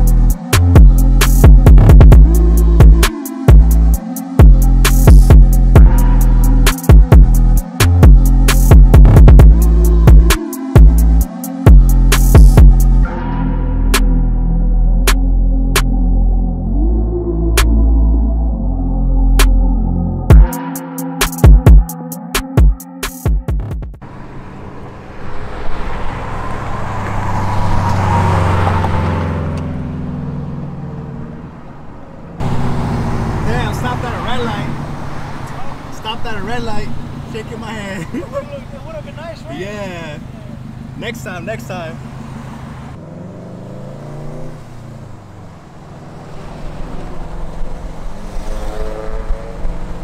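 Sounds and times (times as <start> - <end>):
car engine drone: 0.0 - 23.1, 24.0 - 50.0.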